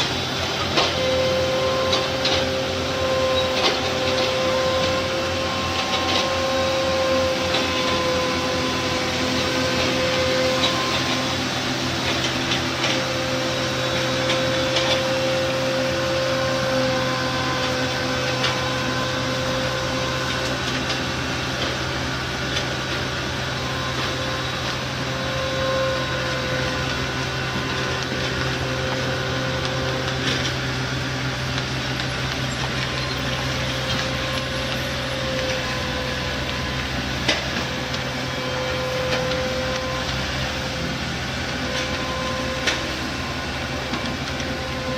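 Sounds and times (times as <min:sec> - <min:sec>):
heavy machinery whining: 0:00.0 - 0:44.9.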